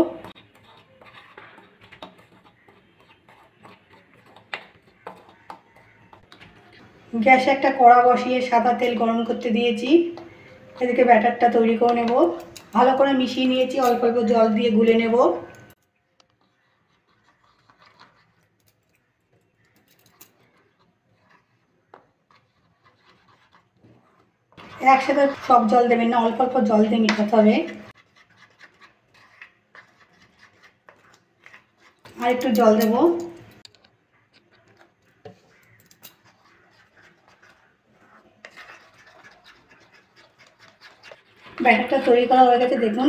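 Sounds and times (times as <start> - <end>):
spoon scraping in bowl: 0.0 - 43.0.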